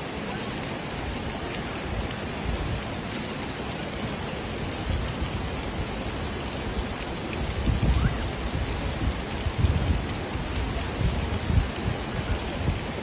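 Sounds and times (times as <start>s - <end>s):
rushing water hiss: 0.0s - 13.0s.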